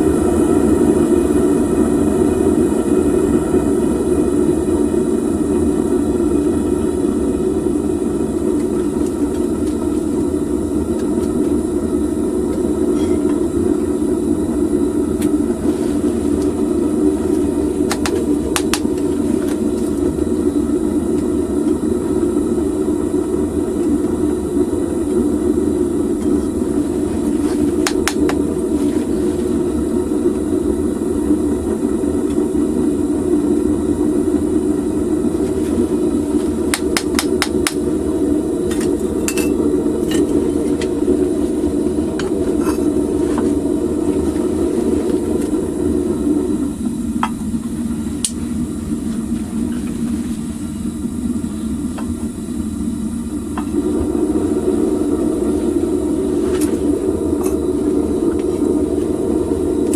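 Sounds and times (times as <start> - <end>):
gas burner roaring: 0.0 - 59.9.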